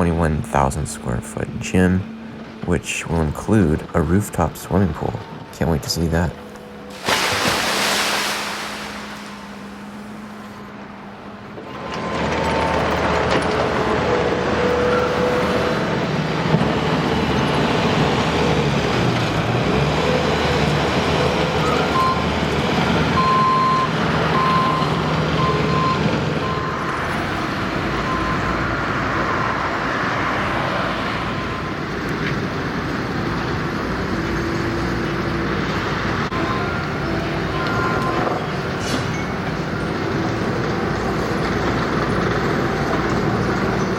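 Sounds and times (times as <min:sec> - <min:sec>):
road traffic: 0:00.0 - 0:43.9
heavy truck passing: 0:00.1 - 0:43.9.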